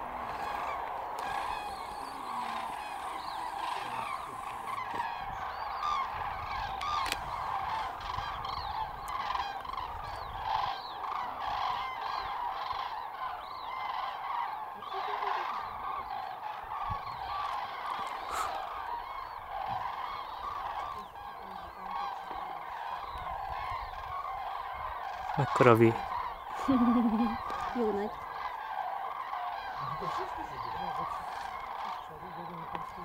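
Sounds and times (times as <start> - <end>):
cranes trumpeting in flight: 0.0 - 33.0.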